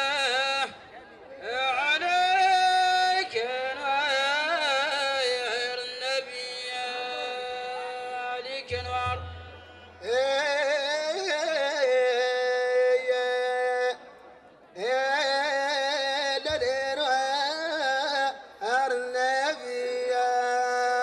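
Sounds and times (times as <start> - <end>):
man chanting through a microphone: 0.0 - 21.0.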